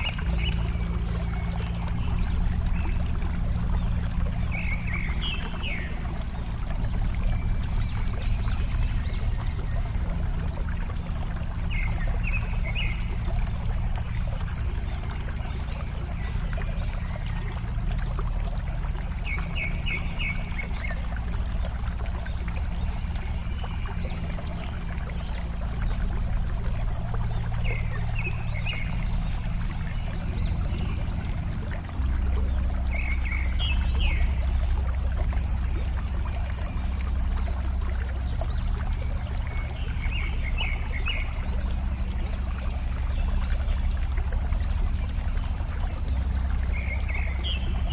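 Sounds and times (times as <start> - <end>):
water rushing: 0.0 - 47.9.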